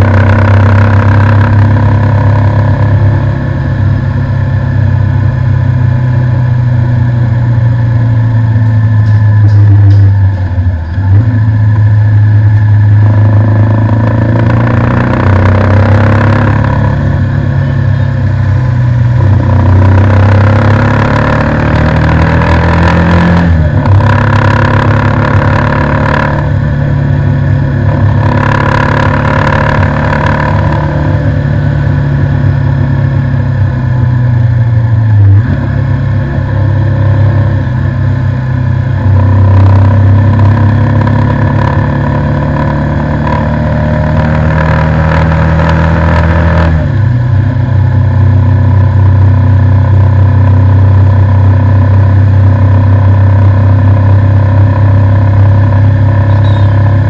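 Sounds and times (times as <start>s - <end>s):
motorcycle engine accelerating: 0.0s - 57.0s
passing traffic: 0.0s - 57.0s.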